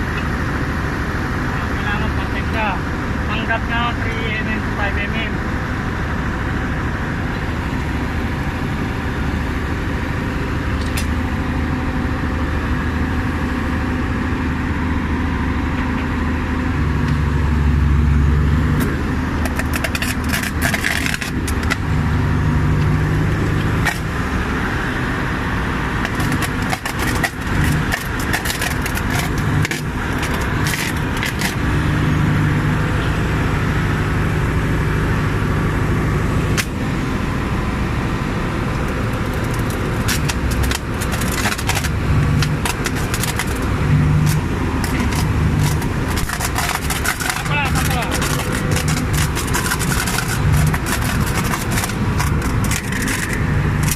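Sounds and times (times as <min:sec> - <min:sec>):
engine drone: 0:00.0 - 0:53.9.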